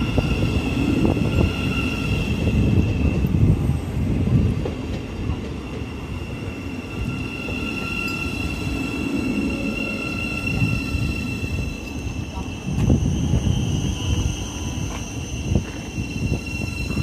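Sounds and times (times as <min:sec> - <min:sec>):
train traction whine: 0:00.0 - 0:17.0
train wheels rumbling on rails: 0:00.0 - 0:17.0.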